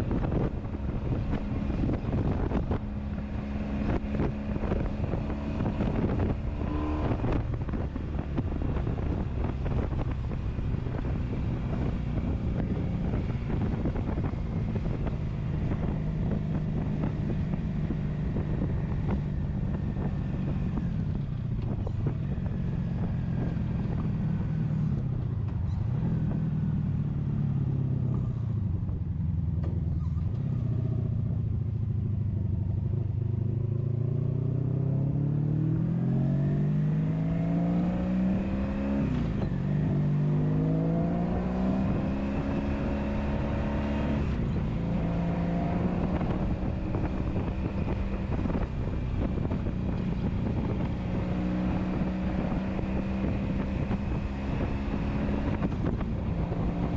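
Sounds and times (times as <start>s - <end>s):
motorcycle engine running: 0.0s - 34.0s, 38.4s - 56.9s
wind buffeting microphone: 0.0s - 56.9s.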